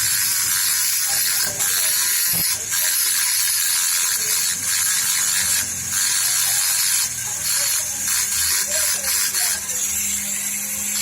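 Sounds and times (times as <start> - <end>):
harsh rasping of tool work: 0.0 - 11.0.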